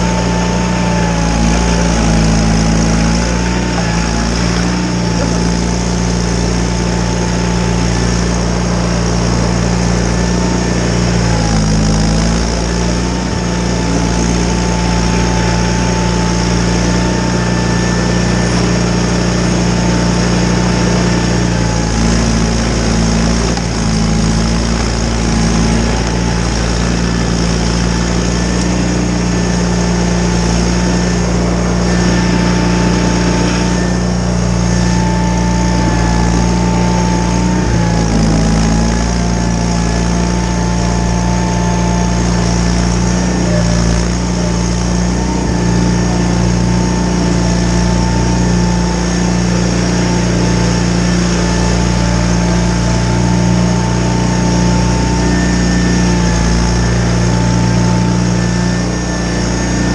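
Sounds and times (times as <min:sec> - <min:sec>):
high whine: 0:00.0 - 0:59.9
tractor engine running: 0:00.0 - 0:59.9.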